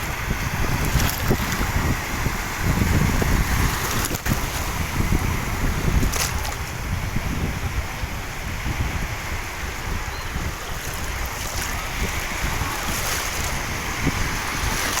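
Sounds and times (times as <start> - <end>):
rushing water: 0.0 - 15.0
wind buffeting microphone: 0.0 - 15.0.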